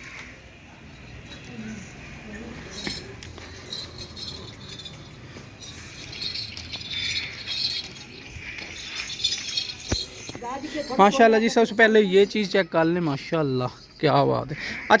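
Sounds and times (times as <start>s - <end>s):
metallic jingling and clinking: 0.7s - 14.6s.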